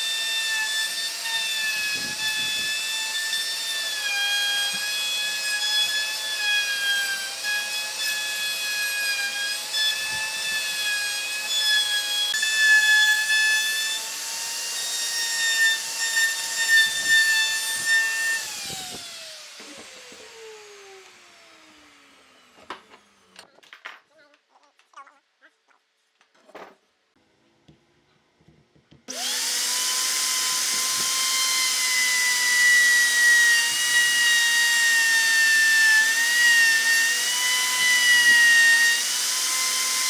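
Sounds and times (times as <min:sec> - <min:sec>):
power tool motor whining: 0:00.0 - 0:23.4, 0:29.1 - 0:40.0.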